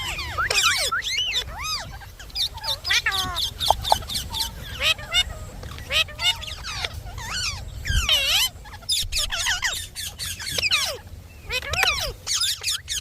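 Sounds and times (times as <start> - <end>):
parakeet squawking: 0.0 - 13.0.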